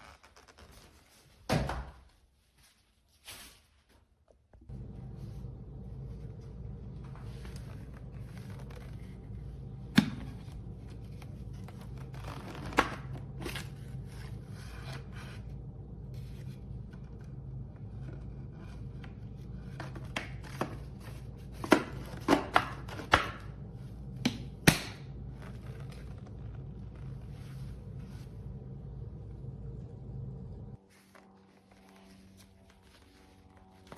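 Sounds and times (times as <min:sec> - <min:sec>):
low hum: 0:04.6 - 0:33.9.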